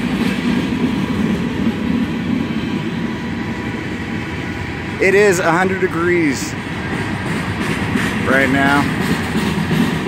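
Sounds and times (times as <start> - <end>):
freight train rolling past: 0.0 - 10.0
steel wheels on rails: 0.0 - 10.0.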